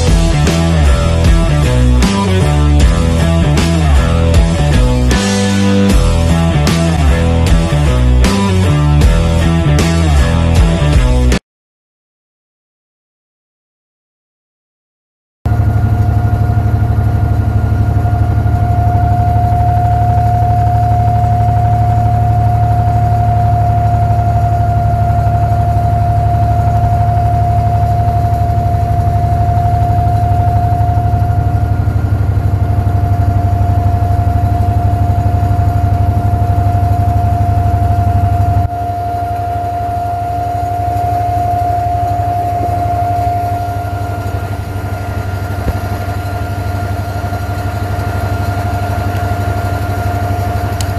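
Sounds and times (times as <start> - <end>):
boat diesel engine rumbling: 0.0 - 11.4, 15.5 - 50.9
engine whine: 0.0 - 11.4, 15.5 - 50.9.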